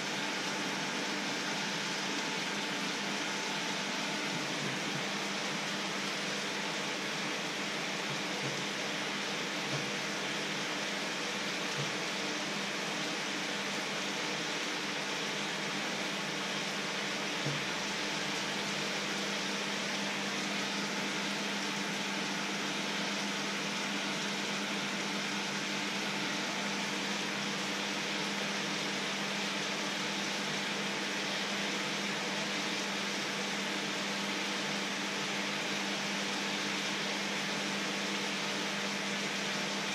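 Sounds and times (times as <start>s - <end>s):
water boiling in a pan: 0.0s - 39.9s.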